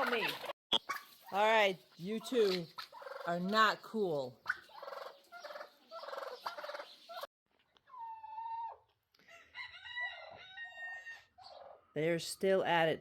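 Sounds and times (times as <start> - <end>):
turkeys squabbling: 0.0 - 9.0, 10.1 - 11.9.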